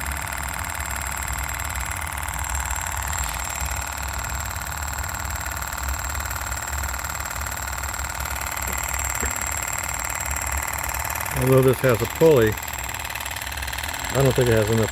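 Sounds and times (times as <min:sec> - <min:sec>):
model engine mechanical clatter: 0:00.0 - 0:14.9.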